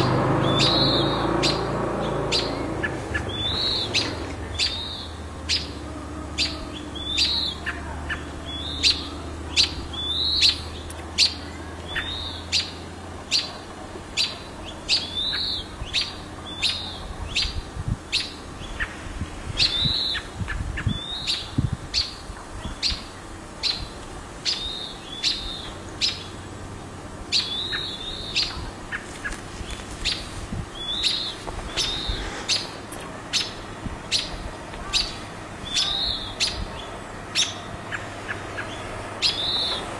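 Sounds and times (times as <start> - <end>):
songbirds alarm chirps: 0.0 - 39.9.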